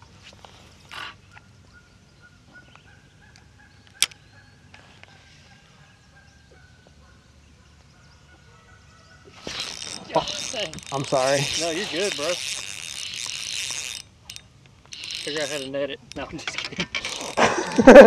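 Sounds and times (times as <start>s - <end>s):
open water ambience: 0.0s - 18.0s.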